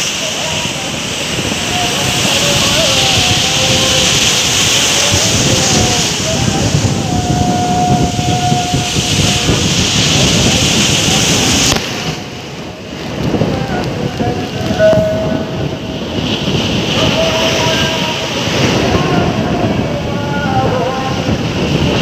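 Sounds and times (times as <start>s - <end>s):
surf breaking on beach: 0.0s - 22.0s
wind: 0.0s - 22.0s.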